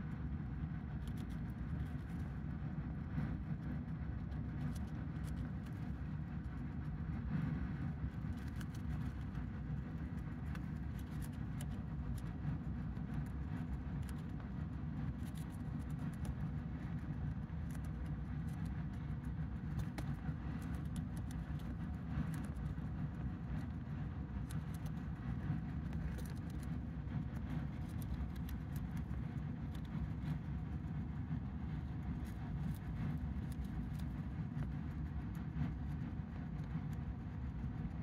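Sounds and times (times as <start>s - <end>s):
steady low rumble: 0.0s - 38.0s
hamster chewing clicks: 0.8s - 38.0s.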